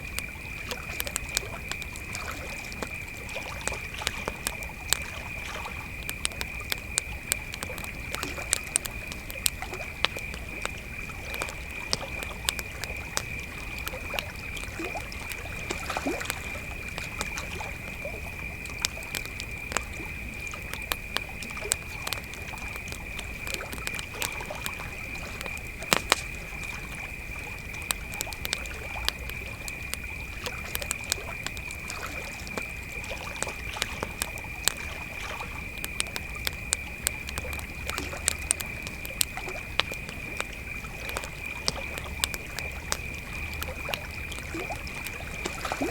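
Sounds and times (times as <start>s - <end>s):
campfire crackling and popping: 0.0s - 45.9s
crickets trilling: 0.0s - 45.9s.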